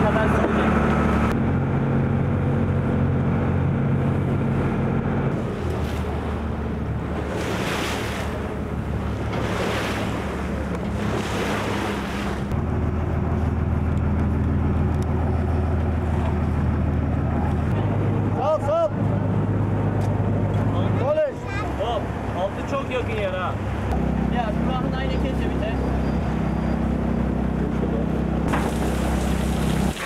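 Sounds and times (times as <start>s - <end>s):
boat engine droning: 0.0s - 30.0s
wind and water noise: 0.0s - 30.0s.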